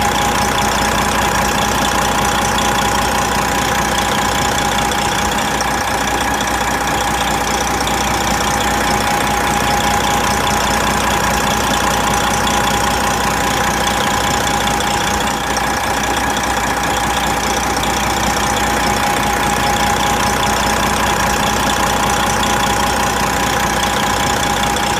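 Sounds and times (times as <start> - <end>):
constant whine: 0.0 - 24.9
diesel truck engine idling: 0.0 - 24.9.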